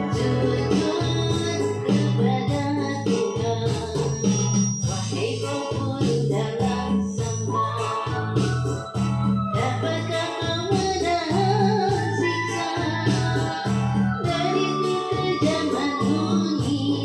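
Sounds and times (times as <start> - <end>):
person singing: 0.0 - 4.3, 4.9 - 8.4, 9.6 - 17.0
repeating bass line: 0.0 - 17.0.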